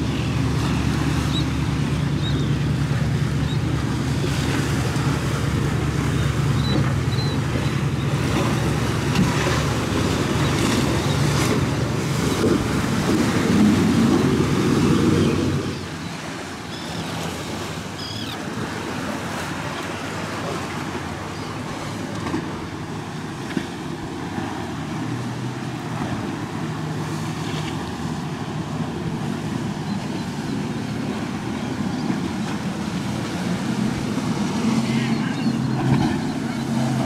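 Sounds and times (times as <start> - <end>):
motorboat engines humming: 0.0 - 37.0
wash of waves: 0.0 - 37.0.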